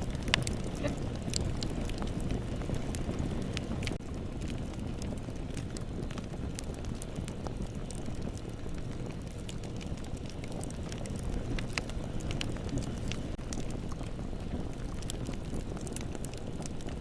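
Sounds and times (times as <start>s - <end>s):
burning wood crackles and pops: 0.0s - 17.0s
low rumble of flames: 0.0s - 17.0s.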